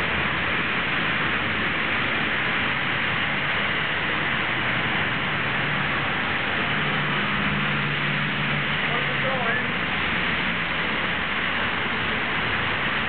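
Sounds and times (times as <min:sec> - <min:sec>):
rain hiss: 0:00.0 - 0:13.0
traffic on wet street: 0:00.0 - 0:13.0.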